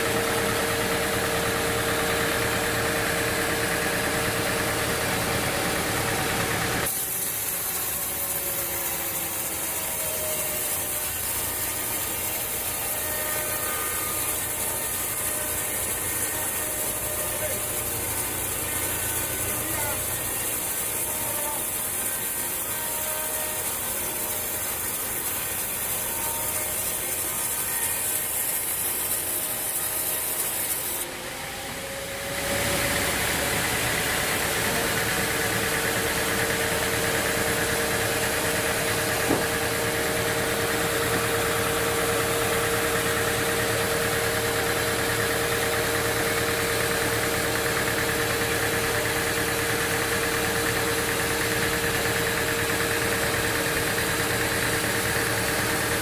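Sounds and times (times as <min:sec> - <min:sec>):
engine running with constant hum: 0:00.0 - 0:28.9, 0:31.0 - 0:56.0
sawmill machinery running: 0:00.0 - 0:56.0.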